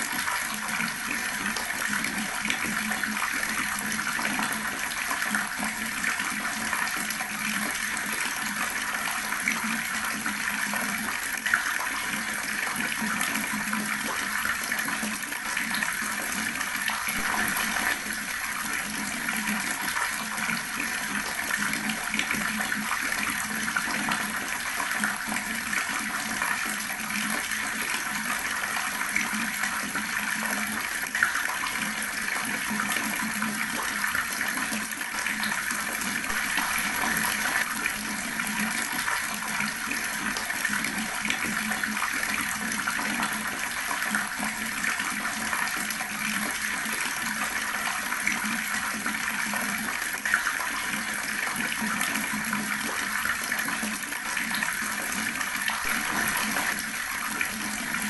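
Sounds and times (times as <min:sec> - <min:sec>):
tap water running and splashing: 0:00.0 - 0:58.0.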